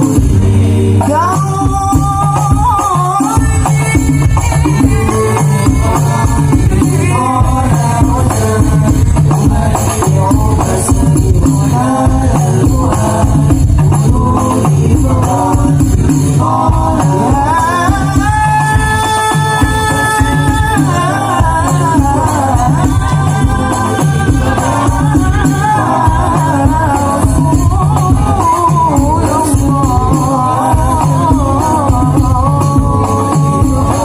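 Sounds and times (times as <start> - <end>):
devotional group singing: 0.0 - 34.0
frame drums playing rapid pattern: 0.0 - 34.0.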